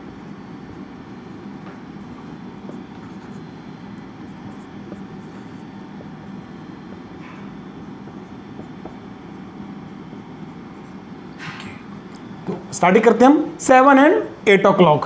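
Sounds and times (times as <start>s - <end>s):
marker drawing on whiteboard: 0.0s - 12.7s
low background hum: 0.0s - 15.0s.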